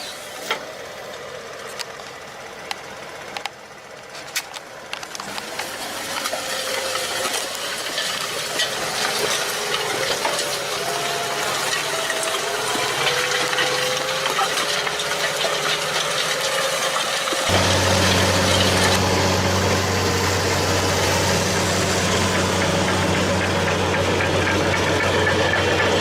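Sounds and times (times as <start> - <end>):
farm machinery running: 0.0 - 26.0.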